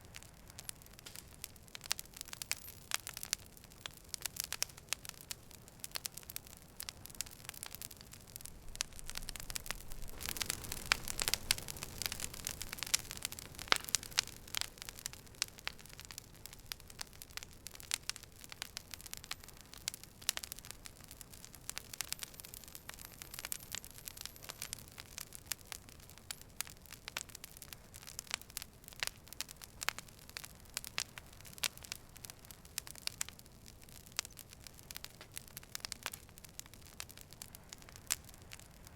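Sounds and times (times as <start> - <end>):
campfire crackling and popping: 0.0 - 38.9
soft fire hiss: 0.0 - 38.9.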